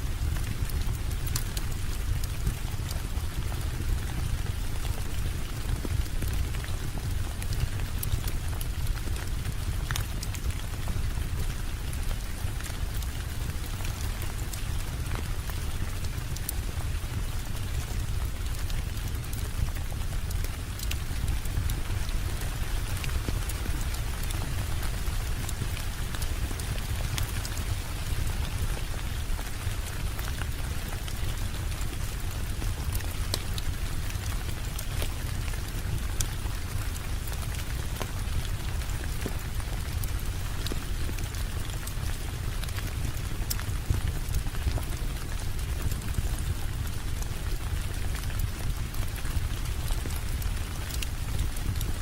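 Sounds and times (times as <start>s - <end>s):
steady rain: 0.0s - 52.0s
wood fire crackling: 0.1s - 52.0s.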